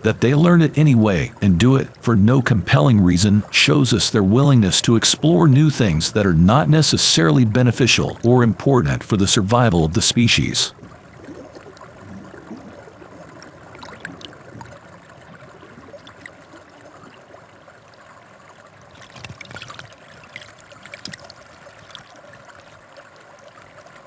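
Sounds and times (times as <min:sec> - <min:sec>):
water splashes and drips: 0:00.0 - 0:09.6, 0:10.2 - 0:24.0
water trickling in rock pool: 0:00.0 - 0:24.0.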